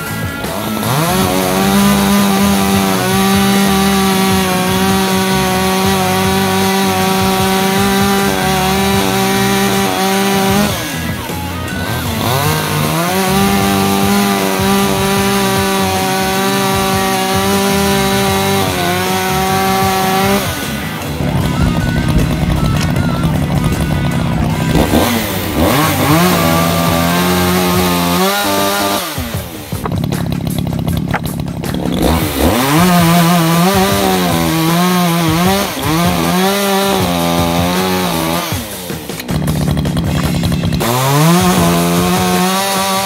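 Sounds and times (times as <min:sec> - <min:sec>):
chainsaw cutting firewood: 0:00.0 - 0:43.0.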